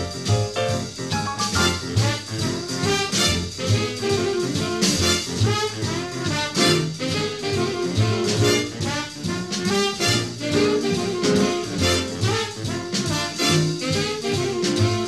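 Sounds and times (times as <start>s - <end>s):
jazz music with brass: 0.0s - 15.0s.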